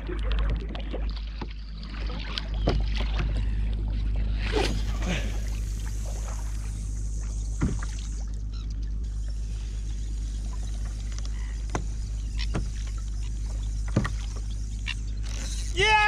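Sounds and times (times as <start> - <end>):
water lapping against hull: 0.0 - 16.0.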